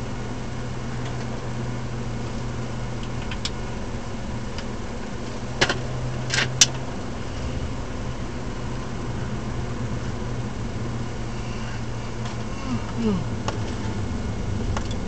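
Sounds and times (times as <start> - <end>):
car engine running: 0.0 - 15.0
tyre and road noise: 0.0 - 15.0.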